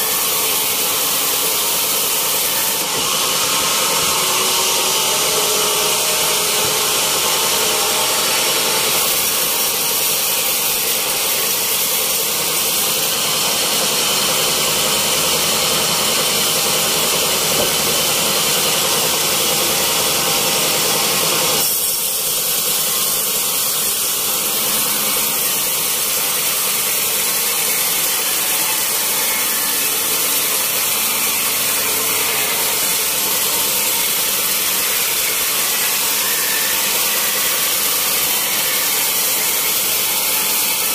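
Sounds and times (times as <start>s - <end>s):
band saw blade whirring through log: 0.0s - 40.9s.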